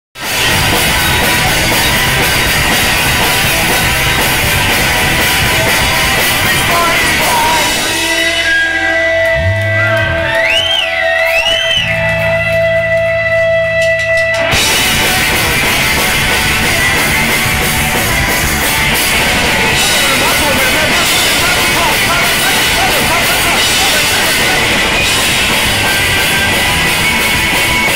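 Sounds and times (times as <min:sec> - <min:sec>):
live rock band: 0:00.2 - 0:27.9.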